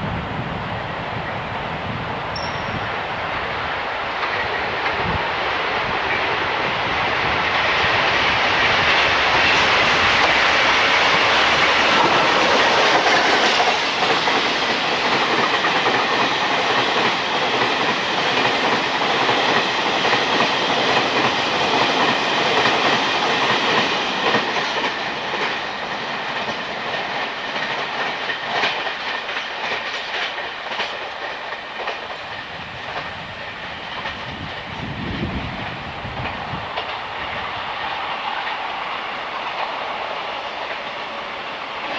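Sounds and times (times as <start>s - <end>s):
train wheels clacking over rail joints: 2.4s - 41.9s.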